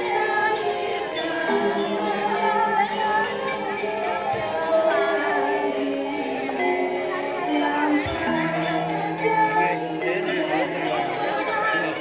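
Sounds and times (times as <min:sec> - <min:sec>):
group singing unaccompanied: 0:00.0 - 0:12.0.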